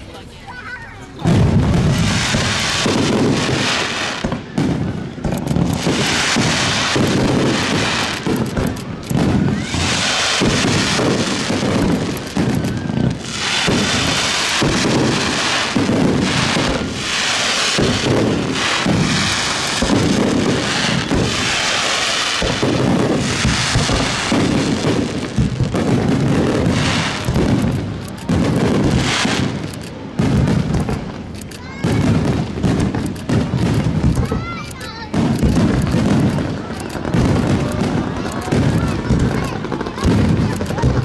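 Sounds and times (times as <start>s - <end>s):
high firework crackle: 0.0s - 41.0s
firework shell bursts: 1.2s - 41.0s.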